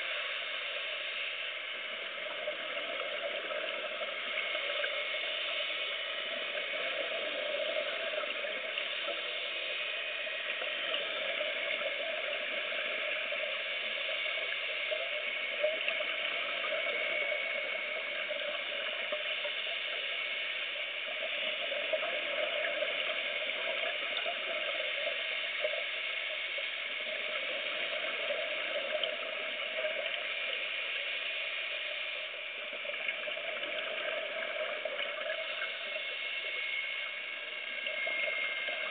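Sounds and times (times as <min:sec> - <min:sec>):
underwater crackling hiss: 0:00.0 - 0:38.9.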